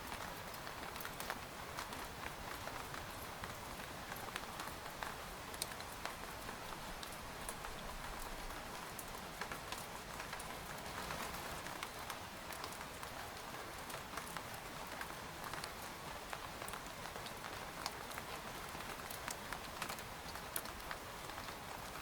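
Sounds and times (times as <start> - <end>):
raindrops tapping on tent fabric: 0.0 - 22.0.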